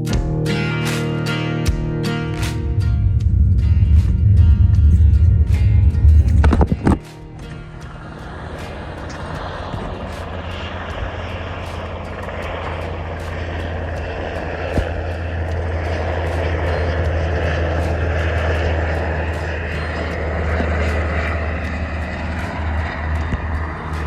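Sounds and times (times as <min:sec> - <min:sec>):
helicopter engine drone and beating: 0:00.0 - 0:24.0.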